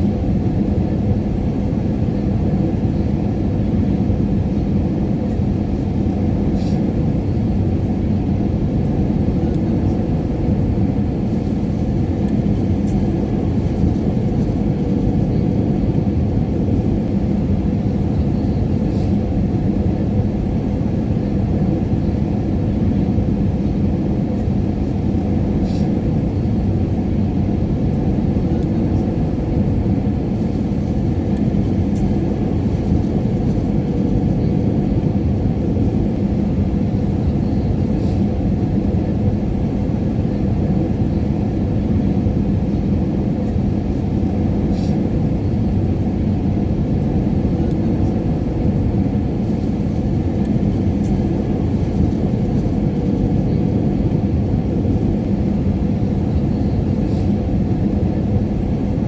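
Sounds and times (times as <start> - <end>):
engine rumble and rushing air: 0.0 - 58.8.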